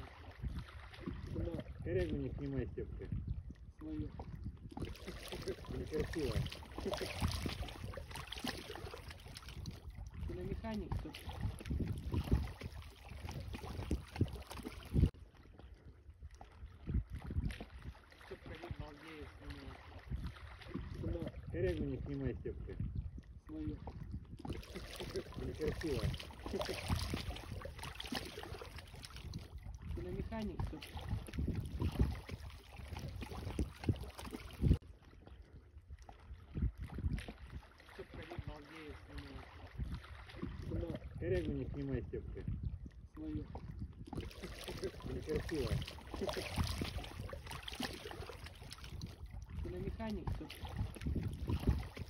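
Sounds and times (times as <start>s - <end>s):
small waves lapping: 0.0s - 52.0s
wind on microphone: 0.0s - 52.0s.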